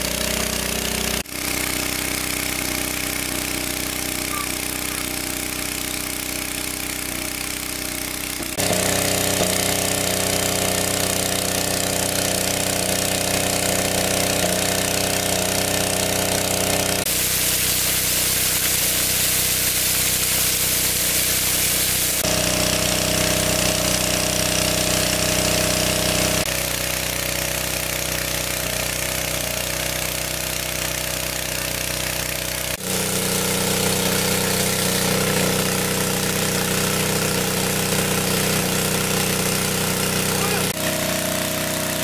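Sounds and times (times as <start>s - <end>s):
petrol water pump engine running: 0.0s - 42.0s
water jet spraying onto ground: 0.0s - 42.0s.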